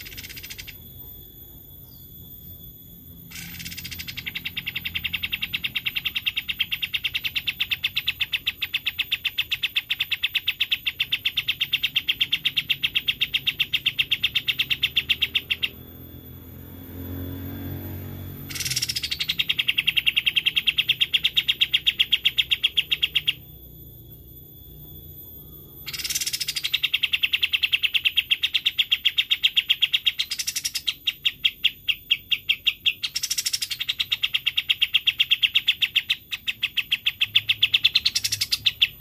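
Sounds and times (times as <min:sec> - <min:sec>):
bird singing fast trill: 0:00.0 - 0:39.0.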